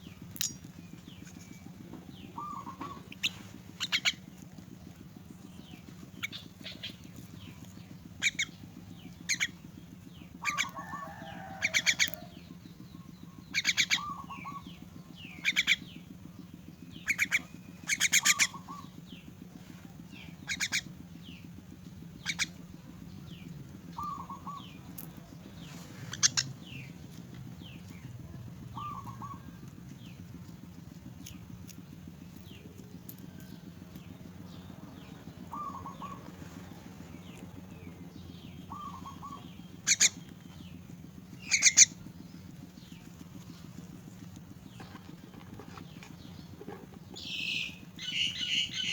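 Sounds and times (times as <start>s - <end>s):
steady low hum: 0.0s - 48.9s
young birds rasping begging calls: 0.0s - 48.9s.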